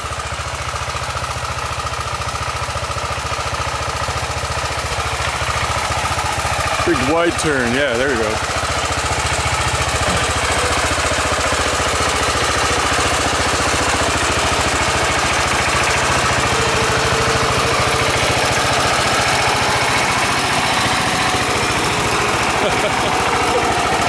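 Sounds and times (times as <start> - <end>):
small tractor engine chugging: 0.0 - 24.0.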